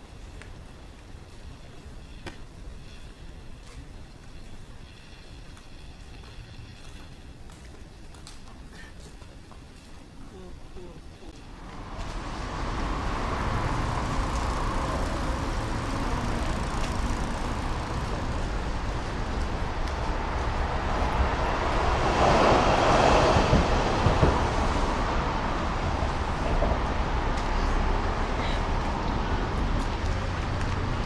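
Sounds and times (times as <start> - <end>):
rumble of passing vehicles: 0.0 - 31.0.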